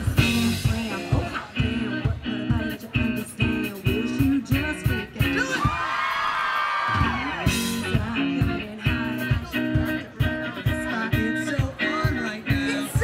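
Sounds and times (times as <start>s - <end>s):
live pop-rock band: 0.0s - 13.0s.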